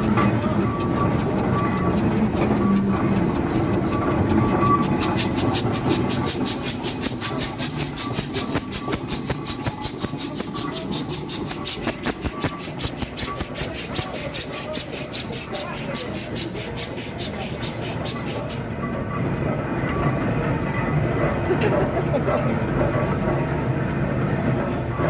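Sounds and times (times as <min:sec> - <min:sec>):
steam engine chuffing: 0:00.0 - 0:25.0.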